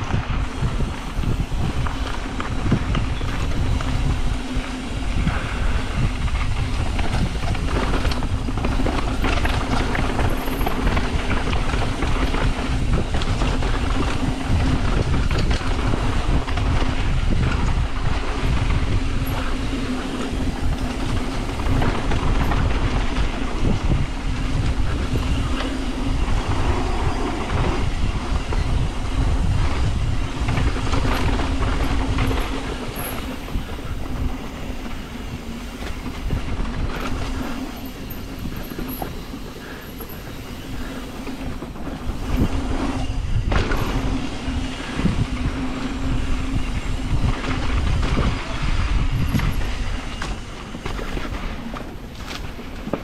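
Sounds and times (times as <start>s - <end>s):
bike rattling over rough ground: 0.0s - 53.0s
bike tyres rolling on dirt: 0.0s - 53.0s.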